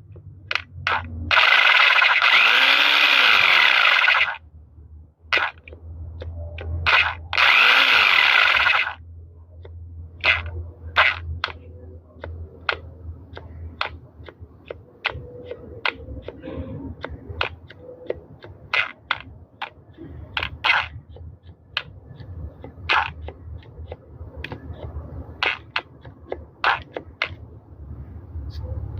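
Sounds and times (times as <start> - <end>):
sharp clicks and knocks: 0.1 - 4.4, 5.3 - 9.0, 9.6 - 27.6.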